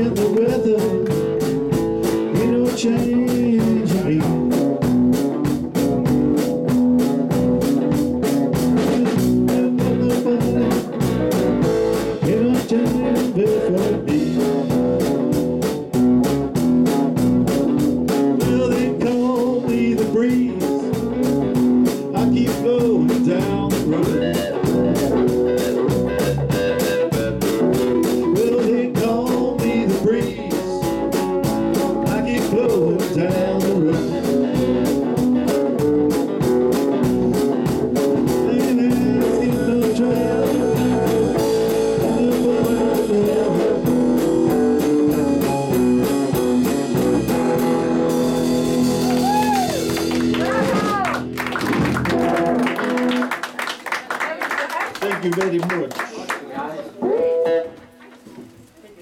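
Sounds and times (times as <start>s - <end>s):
live band playing blues-rock: 0.0s - 53.8s, 56.9s - 58.5s.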